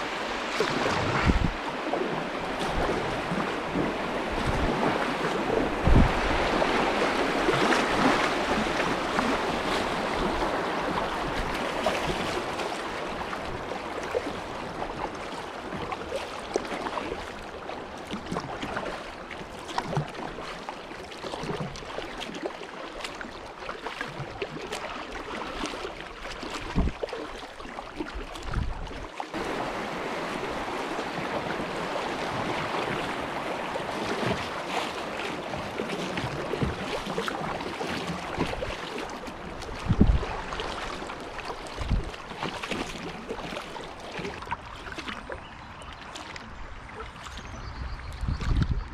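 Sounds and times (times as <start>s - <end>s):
river water rushing and splashing: 0.0s - 48.9s.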